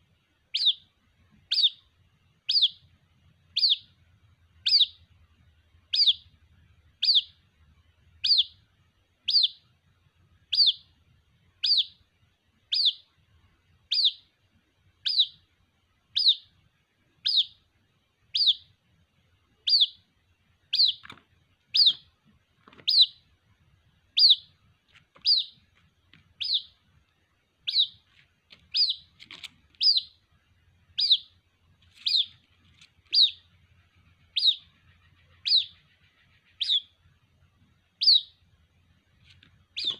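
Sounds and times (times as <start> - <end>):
bird chick piping calls: 0.4 - 5.2, 5.8 - 9.8, 10.4 - 11.0, 11.6 - 15.5, 16.1 - 18.8, 19.5 - 23.4, 24.0 - 38.5, 39.1 - 39.9.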